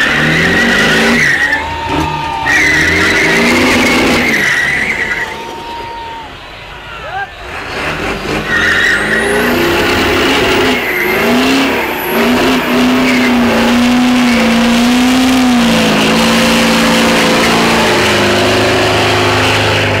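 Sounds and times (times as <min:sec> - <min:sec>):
diesel engine at high revs: 0:00.0 - 0:05.5, 0:07.4 - 0:20.0
tyres spinning on dirt: 0:00.0 - 0:06.0, 0:07.4 - 0:20.0.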